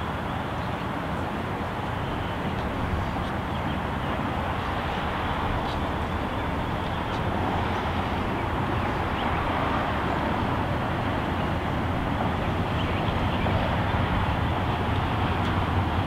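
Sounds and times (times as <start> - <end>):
distant vehicles rumbling: 0.0 - 16.0.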